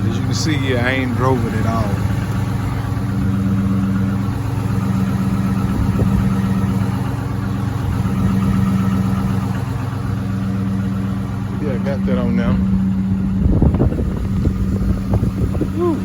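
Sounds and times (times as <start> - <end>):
car engine idling loud exhaust: 0.0 - 16.0.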